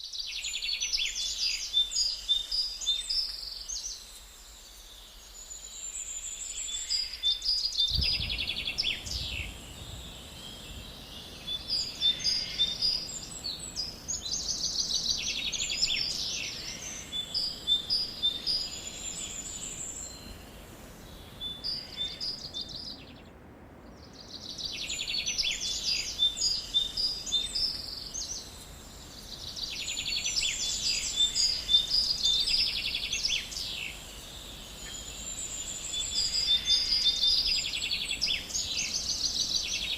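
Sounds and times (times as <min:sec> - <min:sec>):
faint steady background hiss: 0:00.0 - 0:39.9
songbirds trilling and chirping: 0:00.0 - 0:39.9.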